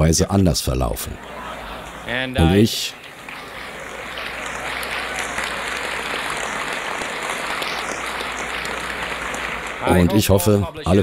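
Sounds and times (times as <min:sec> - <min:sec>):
audience applauding: 0:01.5 - 0:10.5.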